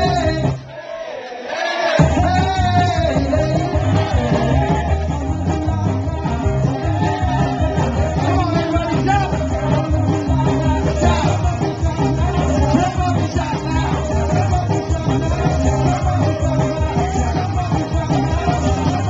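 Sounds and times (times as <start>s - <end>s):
upbeat dance music with singer: 0.0s - 0.7s, 1.8s - 19.0s.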